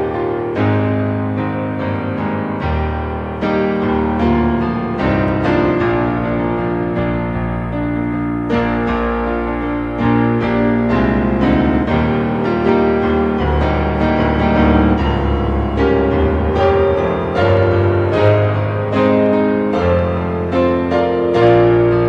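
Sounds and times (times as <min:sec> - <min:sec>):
piano playing held chords: 0:00.0 - 0:22.0.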